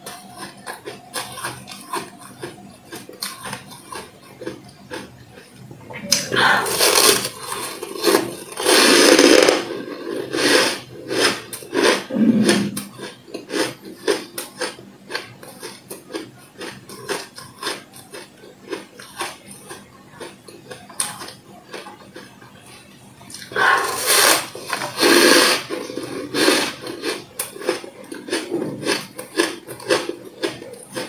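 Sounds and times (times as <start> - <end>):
crisp chewing crunches: 0.0 - 10.6, 11.2 - 31.0
frost crunching in mouth: 0.0 - 22.4, 23.3 - 31.0.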